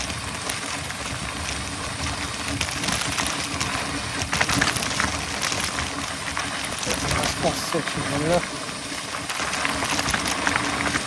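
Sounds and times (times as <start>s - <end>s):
bike tyres on dirt trail: 0.0s - 11.0s
low irregular rumble: 0.0s - 11.0s
small clicks and rattles: 0.0s - 11.0s.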